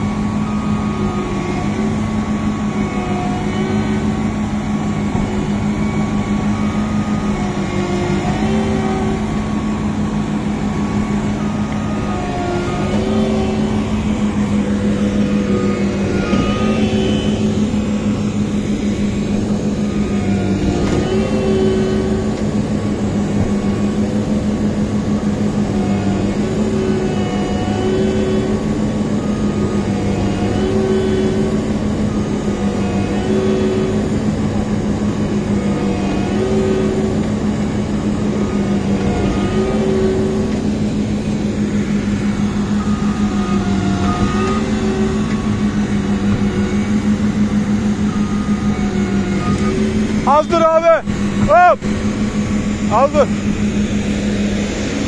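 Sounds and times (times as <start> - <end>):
diesel engine running hard: 0.0 - 55.0
pitched whine: 0.0 - 55.0.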